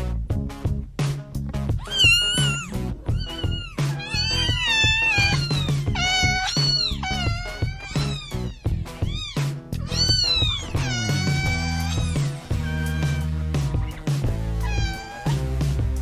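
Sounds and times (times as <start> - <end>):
background music with beat: 0.0 - 16.0
cat meowing: 1.8 - 15.5.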